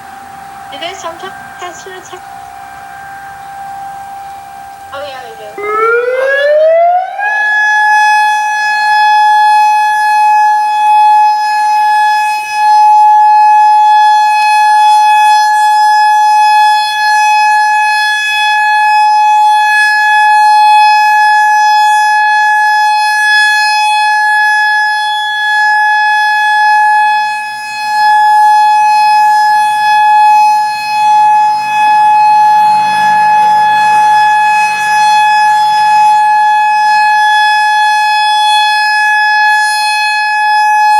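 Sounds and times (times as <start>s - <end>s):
electronic warning siren tone: 0.0s - 40.9s.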